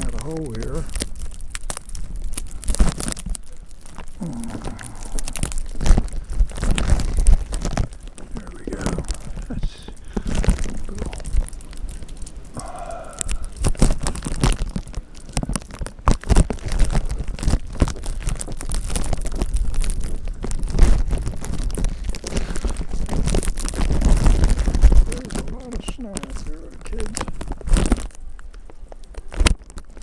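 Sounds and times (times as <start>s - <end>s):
bag crinkling against microphone: 0.0s - 30.0s.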